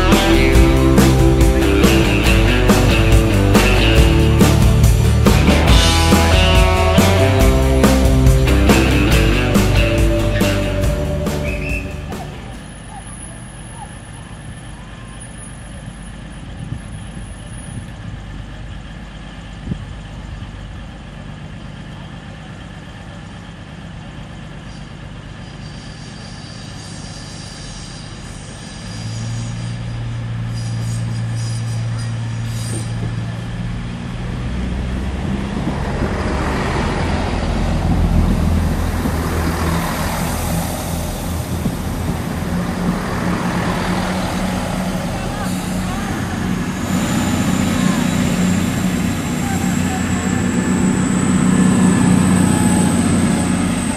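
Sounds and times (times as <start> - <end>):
train diesel engines humming: 0.0 - 53.9
train rumbling past: 0.0 - 53.9.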